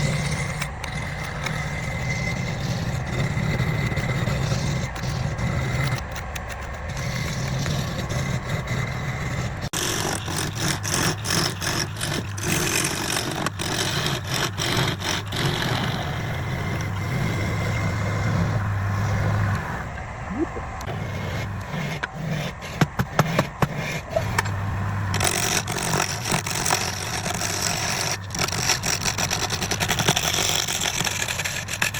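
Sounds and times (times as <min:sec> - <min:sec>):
turning tool scraping wood: 0:00.0 - 0:20.1, 0:20.8 - 0:31.9.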